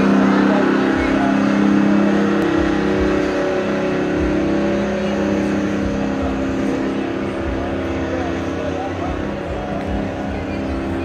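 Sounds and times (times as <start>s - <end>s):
car engines running slowly: 0.0s - 11.0s.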